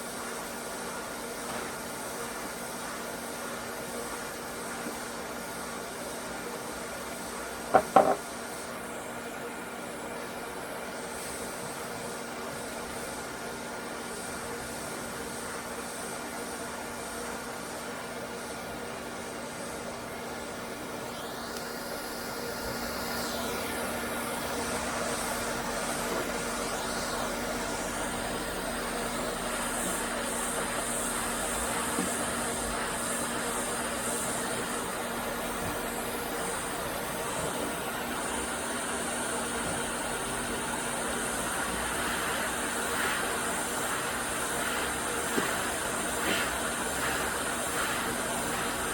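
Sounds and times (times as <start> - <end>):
hot air hissing: 0.0 - 48.9.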